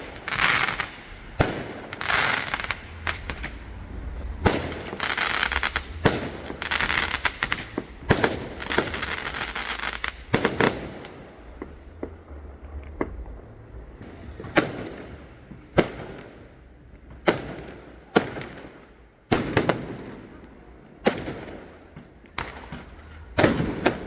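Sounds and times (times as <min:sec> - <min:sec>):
fireworks bangs: 0:00.0 - 0:24.0
fireworks crackle and echo: 0:00.0 - 0:24.0.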